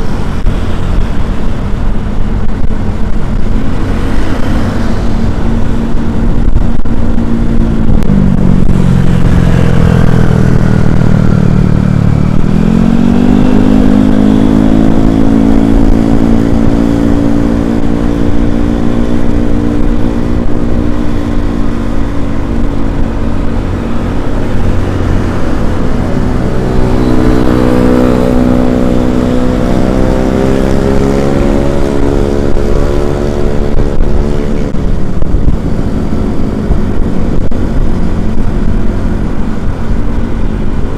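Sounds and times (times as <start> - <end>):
vehicle engine running: 0.0 - 40.9
wind rumble on microphone: 0.0 - 40.9.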